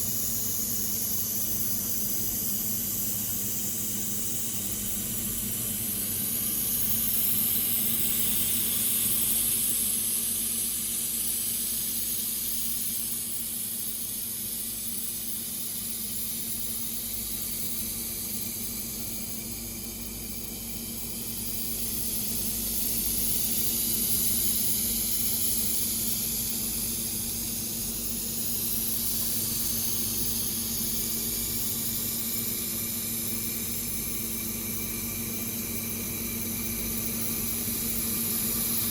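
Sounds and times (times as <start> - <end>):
laser welding machine hum: 0.0 - 38.9.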